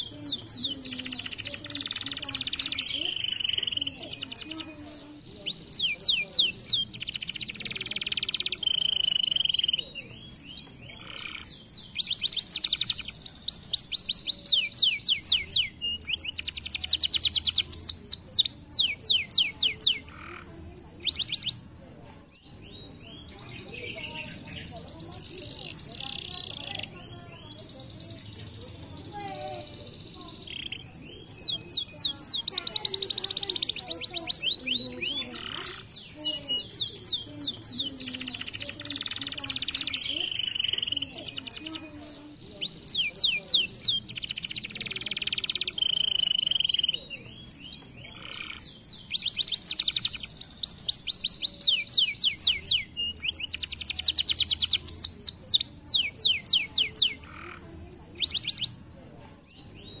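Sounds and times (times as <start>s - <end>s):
canary singing: 0.0s - 60.0s.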